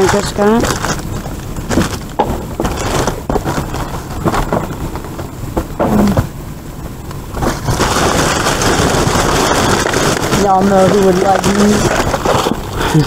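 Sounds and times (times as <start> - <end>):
plastic bags and boxes rustling: 0.0 - 6.4, 7.3 - 13.0.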